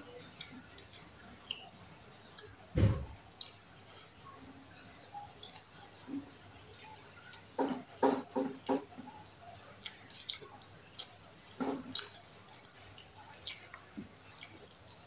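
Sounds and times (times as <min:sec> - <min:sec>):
chewing food: 0:00.1 - 0:15.0.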